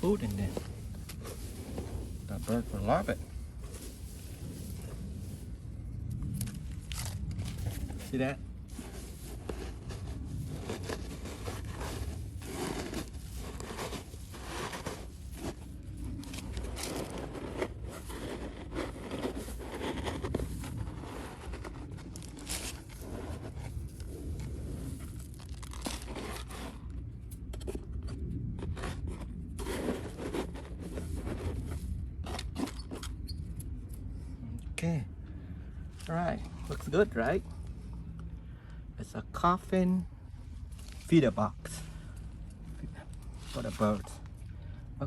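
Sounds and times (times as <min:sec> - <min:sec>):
bird seed rustling and scraping: 0:00.0 - 0:33.8, 0:40.4 - 0:44.4.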